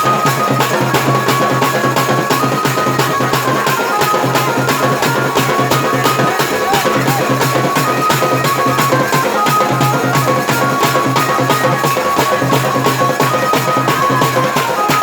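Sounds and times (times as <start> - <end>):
dance music: 2.0 - 15.0.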